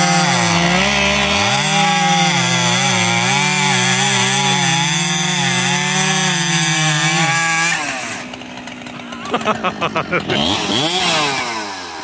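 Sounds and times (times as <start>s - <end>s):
chainsaw cutting through log: 0.0s - 12.0s.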